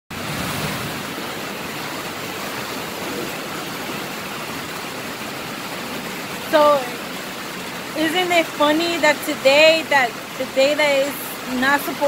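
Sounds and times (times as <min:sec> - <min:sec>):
heavy rain pouring: 0:00.1 - 0:12.0.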